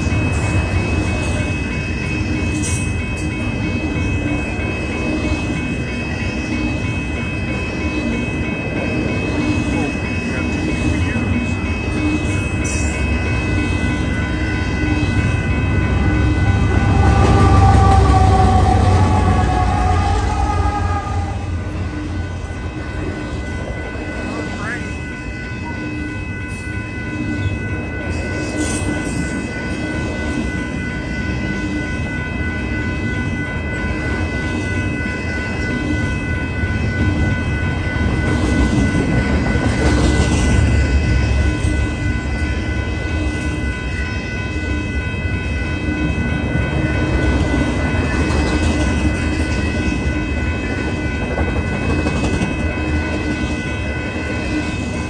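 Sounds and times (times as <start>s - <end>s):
high-pitched ringing tones: 0.0s - 55.0s
train wheels rumbling on rails: 0.0s - 55.0s.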